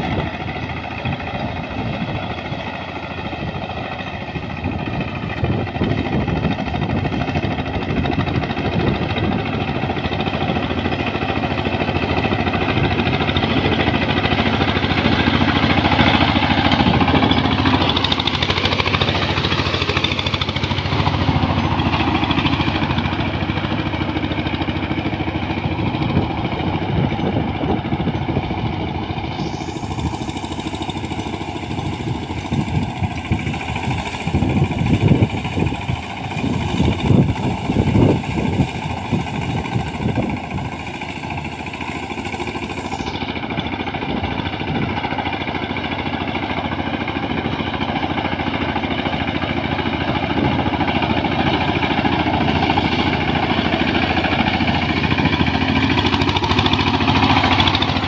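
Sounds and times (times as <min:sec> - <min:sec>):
diesel tiller chugging: 0:00.0 - 0:58.0.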